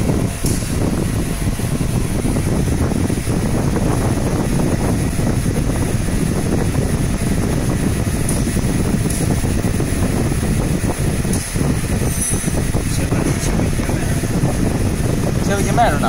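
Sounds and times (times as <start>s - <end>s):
high-pitched whine: 0.0s - 16.0s
laser marking machine humming: 0.0s - 16.0s.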